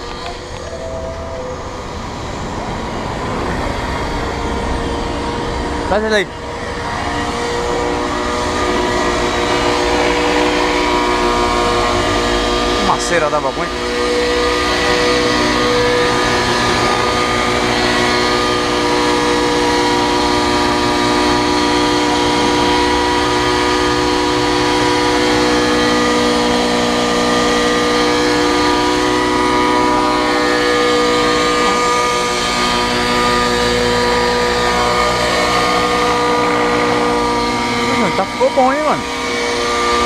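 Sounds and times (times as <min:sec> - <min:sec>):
helicopter engine running: 0:00.0 - 0:40.0.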